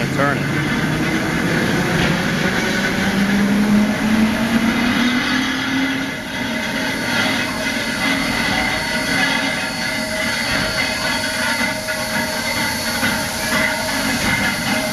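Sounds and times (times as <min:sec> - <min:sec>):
low hum rising in pitch: 0:00.0 - 0:14.9.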